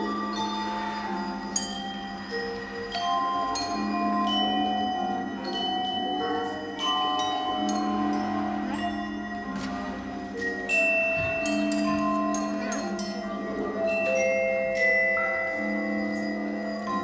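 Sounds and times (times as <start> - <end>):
vibraphone notes: 0.0 - 17.0.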